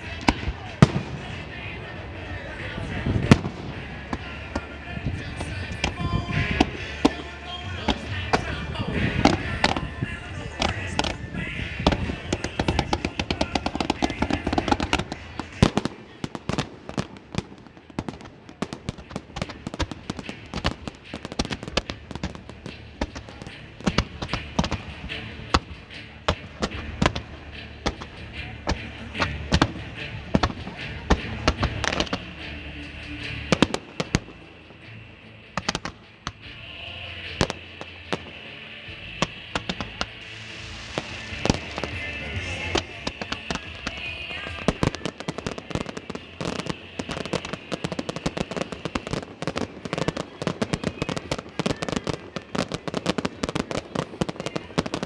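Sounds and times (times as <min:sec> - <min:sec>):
fireworks bangs and crackling: 0:00.0 - 0:55.0
music playing: 0:00.0 - 0:55.0.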